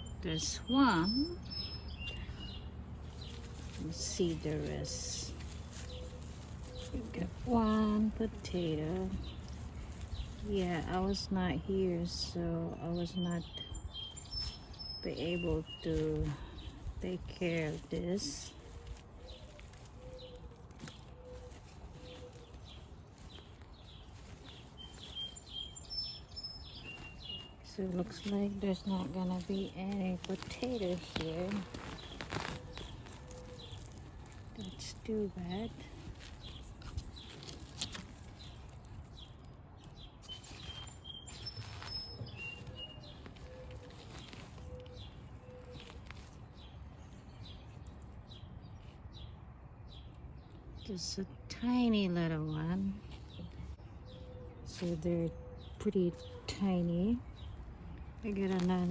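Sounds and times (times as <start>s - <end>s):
bird chirping: 0.0s - 11.9s, 12.7s - 58.9s
hands digging dry soil: 0.0s - 49.1s, 50.0s - 58.9s.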